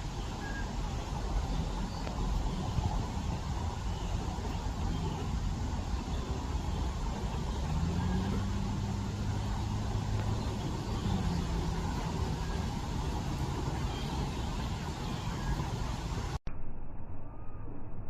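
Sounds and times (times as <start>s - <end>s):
car engine hum: 0.0s - 16.4s
road traffic rumble: 0.0s - 16.4s.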